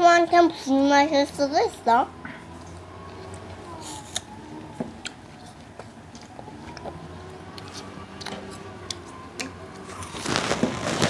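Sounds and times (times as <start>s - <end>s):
children chewing food: 0.2s - 10.3s.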